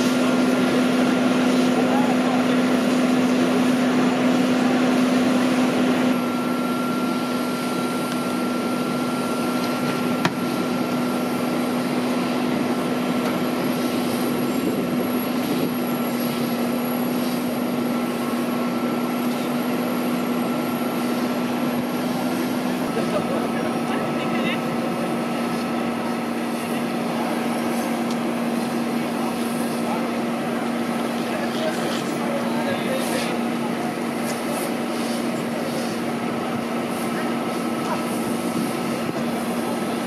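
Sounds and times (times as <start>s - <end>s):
fire engine pump droning: 0.0s - 40.0s.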